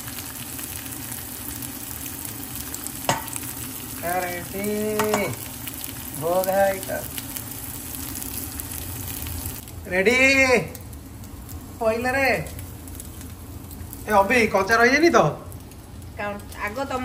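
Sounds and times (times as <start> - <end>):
food sizzling on grill: 0.0 - 17.0.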